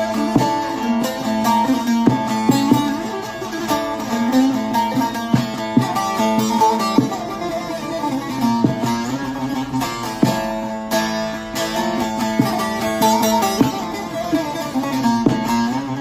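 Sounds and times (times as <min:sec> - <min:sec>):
plucked saz folk melody: 0:00.0 - 0:16.0.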